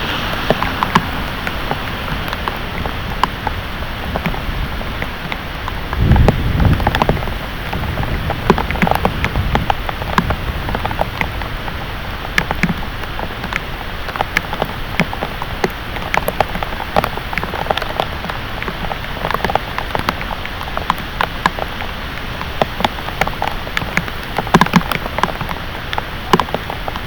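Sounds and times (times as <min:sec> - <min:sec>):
heavy rain falling: 0:00.0 - 0:27.0
raindrops splatting close by: 0:00.0 - 0:27.0.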